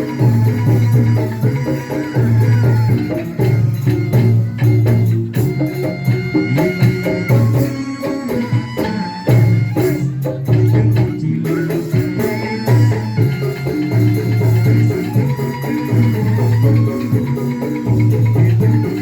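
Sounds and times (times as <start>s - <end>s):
folk-pop band playing: 0.0s - 19.0s
shaker and tambourine percussion: 0.0s - 19.0s.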